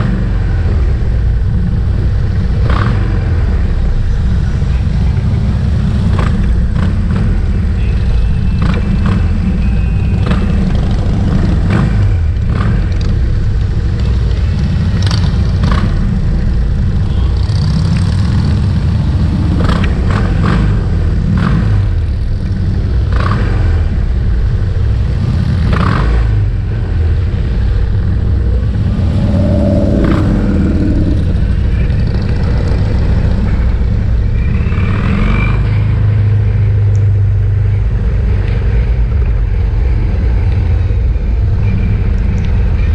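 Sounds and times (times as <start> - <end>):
motorcycle engines rumbling: 0.0 - 42.9.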